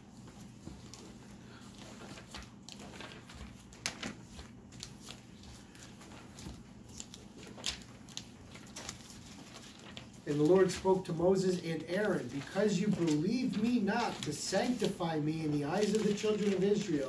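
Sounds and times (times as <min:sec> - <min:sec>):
low room hum: 0:00.0 - 0:17.0
pages being turned: 0:00.1 - 0:17.0.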